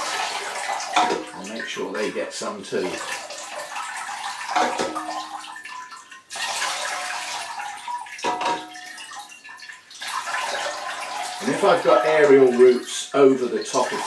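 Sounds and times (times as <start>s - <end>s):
water pouring and splashing: 0.0s - 14.0s.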